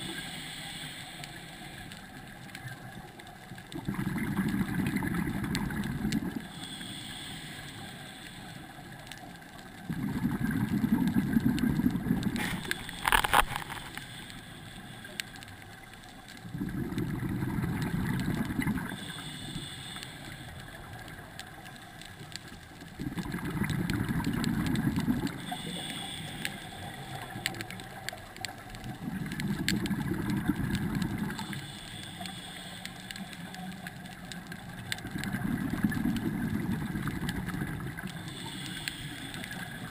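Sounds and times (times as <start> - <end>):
exhaled bubbles underwater: 2.3 - 7.0, 9.6 - 14.2, 15.1 - 32.6, 33.2 - 39.9.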